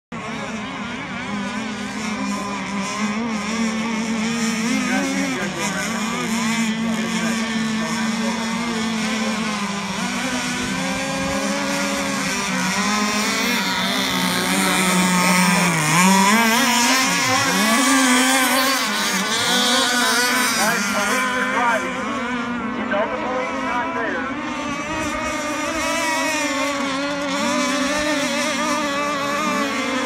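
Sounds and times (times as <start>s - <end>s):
model boat engines at high revs: 0.1s - 30.0s.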